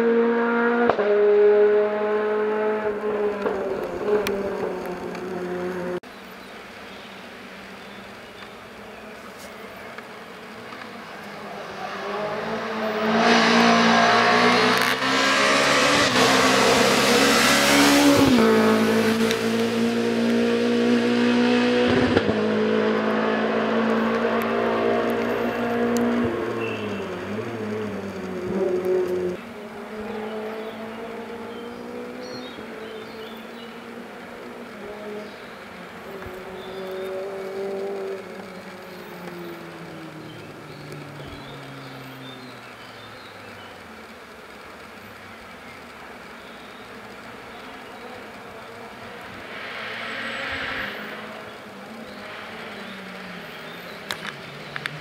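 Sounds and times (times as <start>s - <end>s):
rally car engine passing by: 0.0s - 6.0s, 10.8s - 43.0s, 46.8s - 55.0s.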